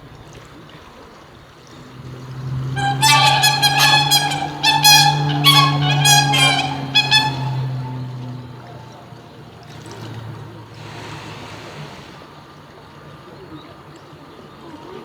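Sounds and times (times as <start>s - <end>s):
water trickling in pond: 0.0s - 14.7s.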